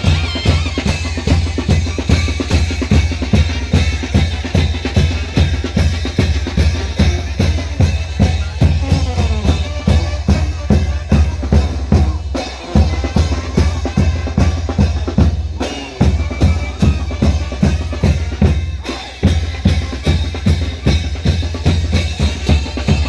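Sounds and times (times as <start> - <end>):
brass melody: 0.0 - 23.0
drums beating: 0.0 - 23.0.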